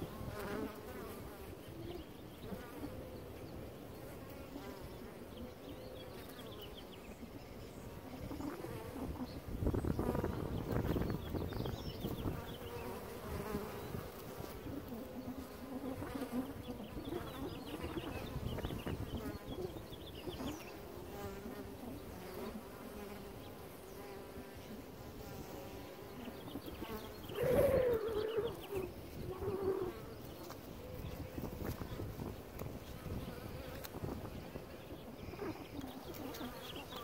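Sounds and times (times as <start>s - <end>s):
single bee buzzing close: 0.0s - 3.1s, 7.5s - 37.0s
bees buzzing: 0.0s - 37.0s.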